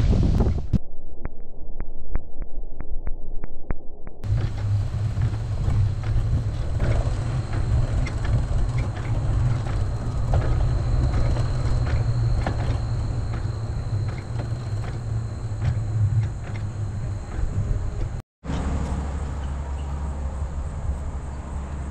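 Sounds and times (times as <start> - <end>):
wind rumbling on microphone: 0.0 - 21.9.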